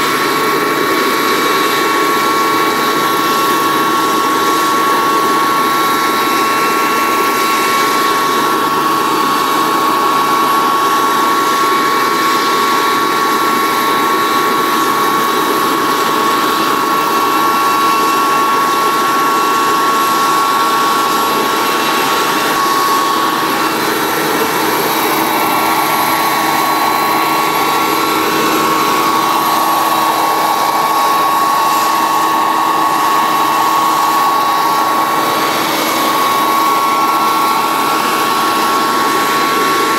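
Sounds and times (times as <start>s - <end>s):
model jet turbine whine: 0.0s - 39.9s.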